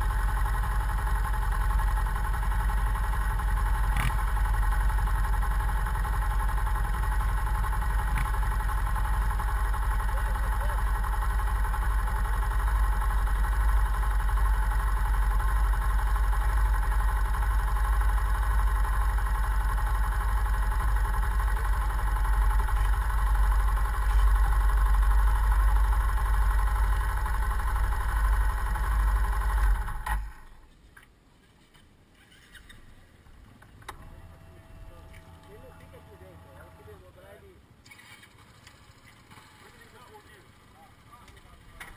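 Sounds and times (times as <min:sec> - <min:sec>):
motorcycle engine idling: 0:00.0 - 0:30.6, 0:32.3 - 0:37.4, 0:38.1 - 0:41.9.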